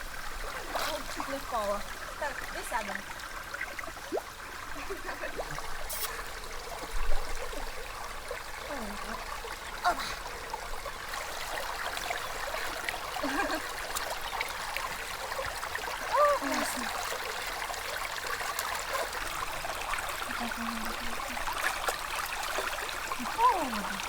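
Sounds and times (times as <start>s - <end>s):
water trickling over stones: 0.0s - 24.0s.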